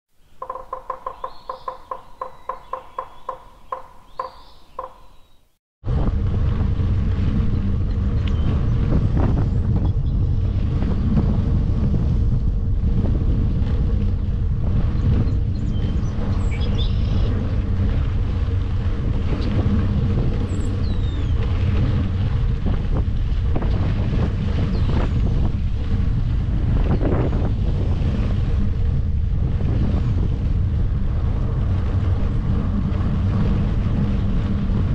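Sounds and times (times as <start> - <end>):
bike tyre rumble: 5.8 - 34.9
wind noise: 5.8 - 34.9.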